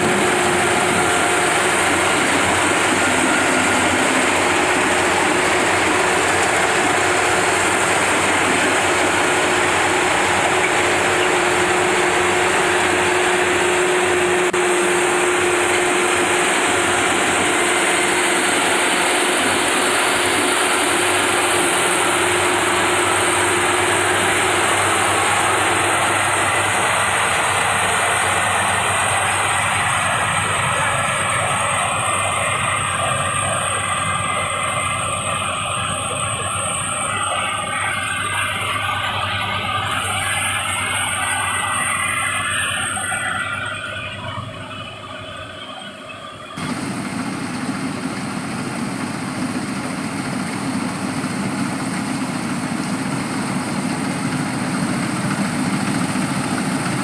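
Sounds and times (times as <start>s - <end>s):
harvesting machine engine running: 0.0s - 57.0s.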